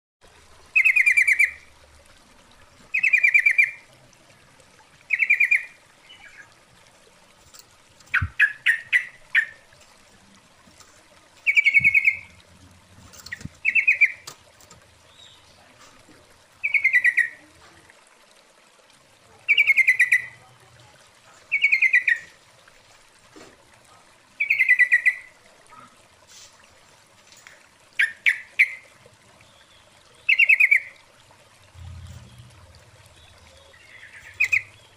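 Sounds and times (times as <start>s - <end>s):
bird calling bubbly phrases: 0.6s - 6.7s, 8.0s - 14.3s, 15.0s - 18.2s, 19.1s - 22.6s, 23.8s - 26.2s, 28.0s - 34.9s.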